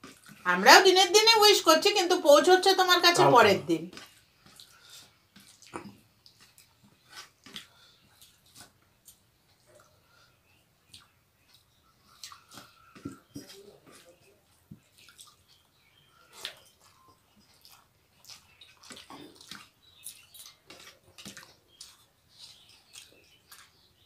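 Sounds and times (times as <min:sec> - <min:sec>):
chewing: 0:00.0 - 0:00.5, 0:03.9 - 0:24.0
fingers squishing rice: 0:03.9 - 0:24.0.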